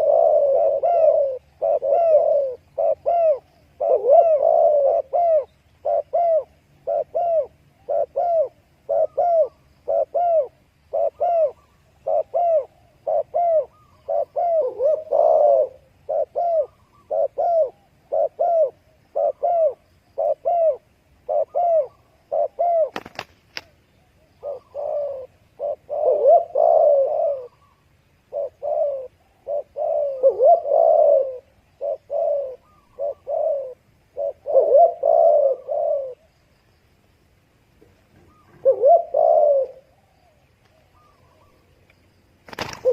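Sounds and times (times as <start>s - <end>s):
dove calling: 0.0s - 36.7s, 37.3s - 42.9s.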